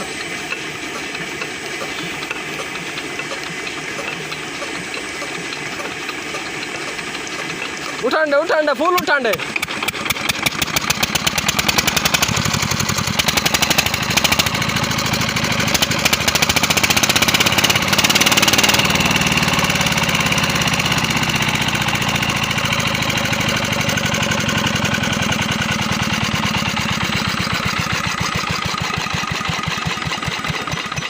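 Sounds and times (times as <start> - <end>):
diesel engine knocking: 0.0 - 31.0.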